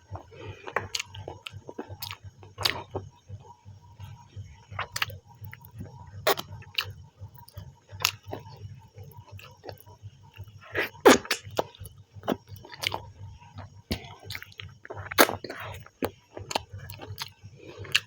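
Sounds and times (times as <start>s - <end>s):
person chewing food: 0.0s - 3.2s, 4.0s - 18.0s.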